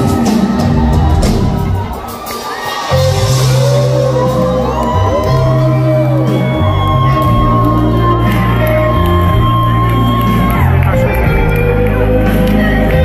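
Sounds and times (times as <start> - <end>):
audience whooping and shouting: 0.0 - 13.0
live pop-rock band: 0.0 - 13.0.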